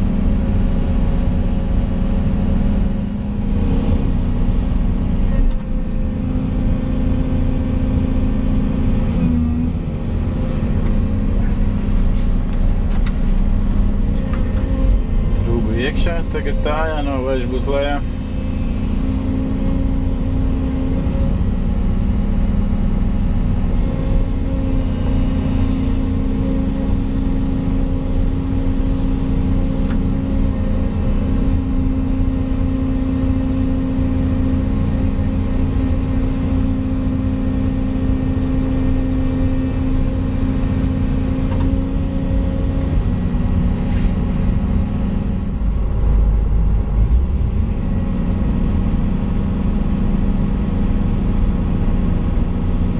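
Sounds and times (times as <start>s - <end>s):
excavator diesel engine droning: 0.0s - 52.9s.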